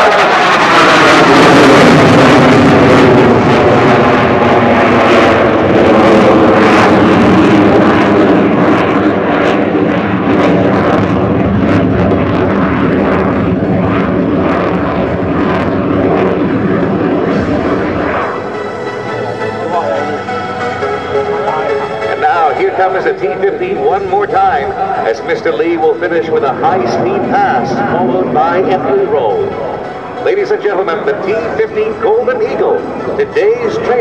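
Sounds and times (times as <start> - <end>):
jet engine flyby: 0.0 - 34.0.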